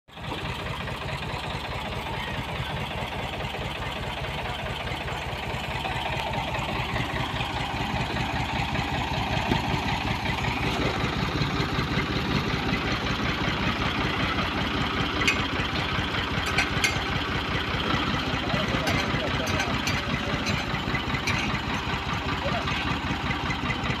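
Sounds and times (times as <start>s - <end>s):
tractor engine running: 0.1s - 24.0s.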